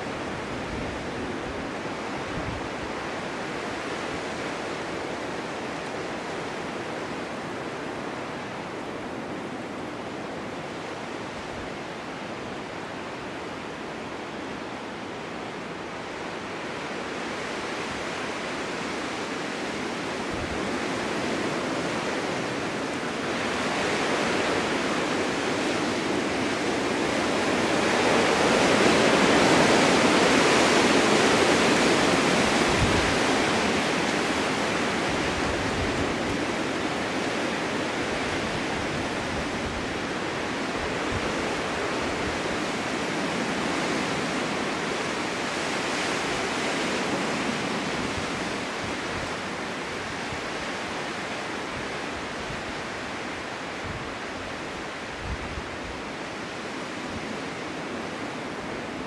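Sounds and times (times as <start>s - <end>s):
gusting wind: 0.0s - 59.0s.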